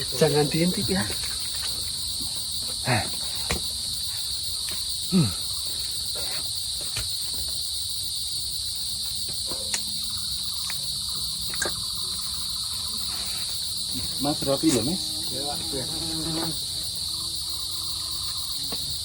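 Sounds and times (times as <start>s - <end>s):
shrill insect chorus: 0.0s - 19.0s.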